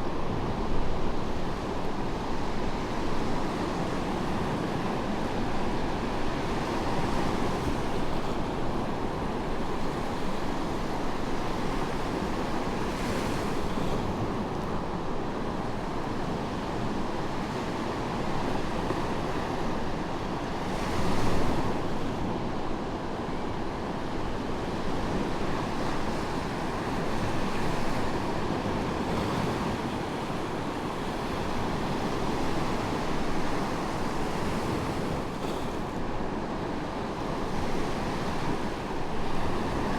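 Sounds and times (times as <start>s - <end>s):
waves breaking on sandy beach: 0.1s - 39.9s.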